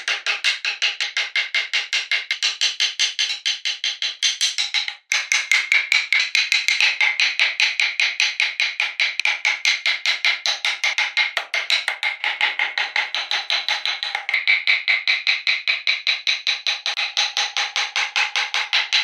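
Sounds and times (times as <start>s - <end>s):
rapid sharp wooden taps: 0.0s - 19.0s.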